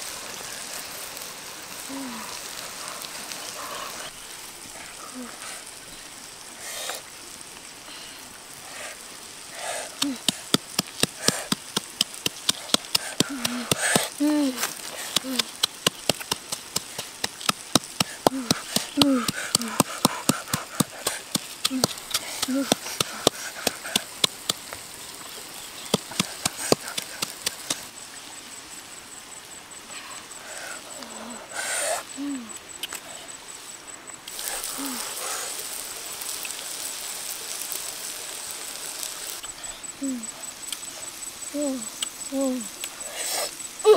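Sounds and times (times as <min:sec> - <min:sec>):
wood fire crackling: 0:00.0 - 0:31.4, 0:32.0 - 0:43.9.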